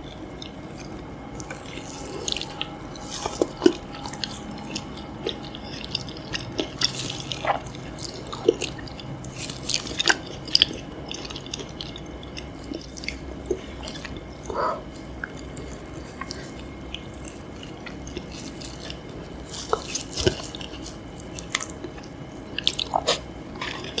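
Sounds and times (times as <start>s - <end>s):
wet chewing and lip smacking: 0.0s - 24.0s.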